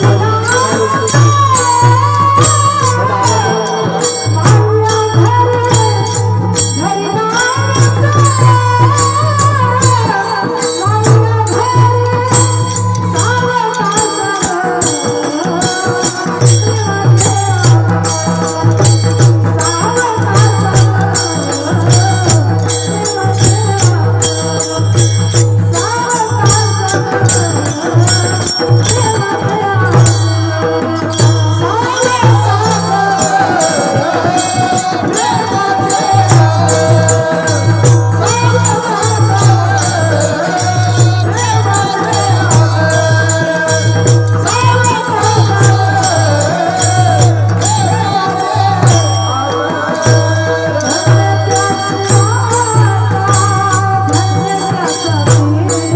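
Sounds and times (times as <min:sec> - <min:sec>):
hand drum fast rhythm: 0:00.0 - 0:55.9.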